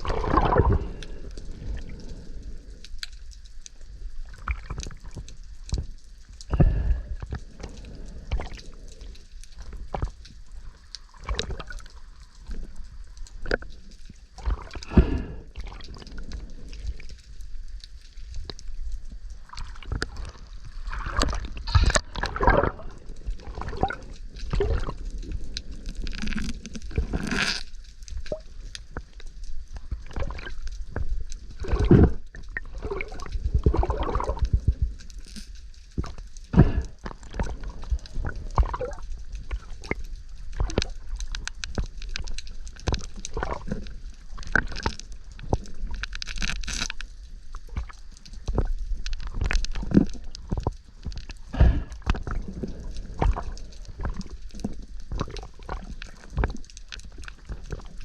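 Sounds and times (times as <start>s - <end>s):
water gurgling and sloshing: 0.0s - 58.0s.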